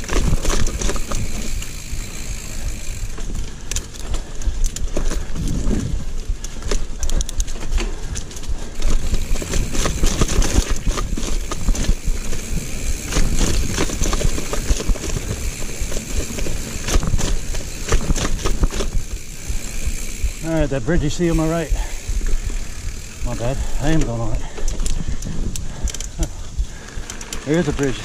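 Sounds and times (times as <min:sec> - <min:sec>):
tyres rumbling on dirt: 0:00.0 - 0:25.2, 0:26.6 - 0:28.0
bike knocking and rattling: 0:00.0 - 0:28.0.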